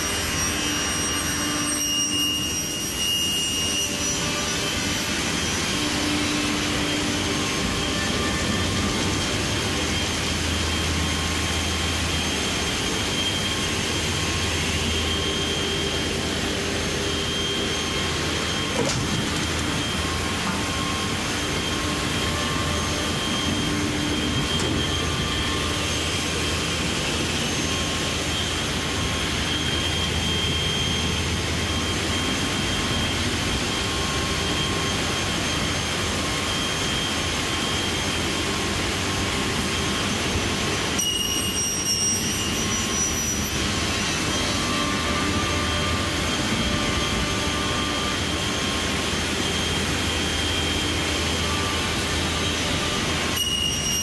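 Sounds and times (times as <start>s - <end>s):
faint high whine: 0.0s - 54.0s
workshop machinery whirring: 2.4s - 54.0s.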